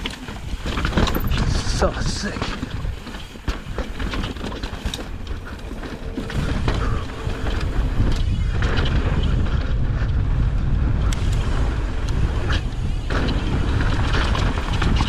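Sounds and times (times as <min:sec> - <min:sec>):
tyres clicking on dirt and rock: 0:00.0 - 0:15.0
wind rumble on microphone: 0:00.0 - 0:15.0.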